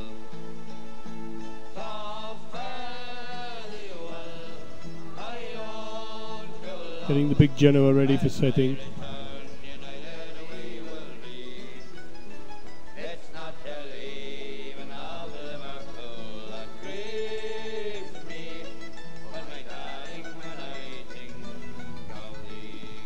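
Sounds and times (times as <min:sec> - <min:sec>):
acoustic plucked string music: 0:00.0 - 0:23.0.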